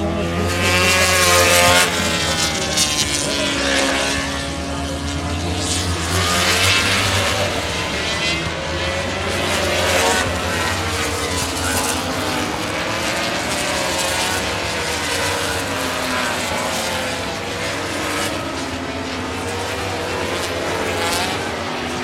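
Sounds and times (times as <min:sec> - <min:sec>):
helicopter drone overhead: 0:00.0 - 0:22.0
racing motorcycles passing: 0:00.0 - 0:22.0.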